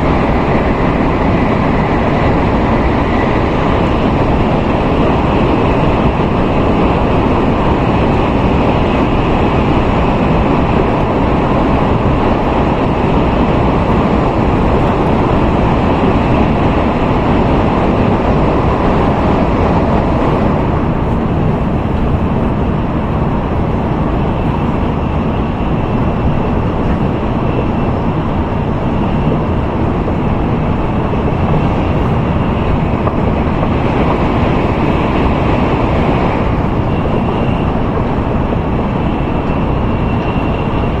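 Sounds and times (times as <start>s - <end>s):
train rushing rumble from inside cabin: 0.0s - 41.0s.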